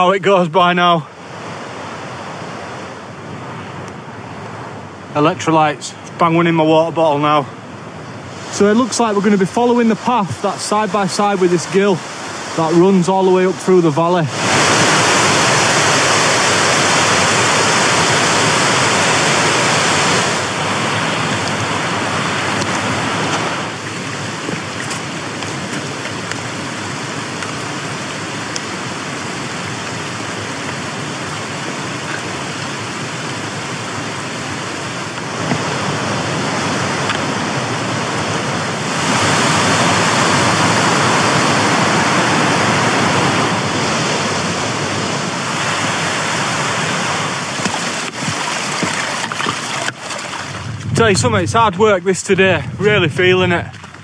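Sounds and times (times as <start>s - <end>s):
mountain stream rushing over rocks: 0.0s - 4.1s, 4.7s - 54.0s.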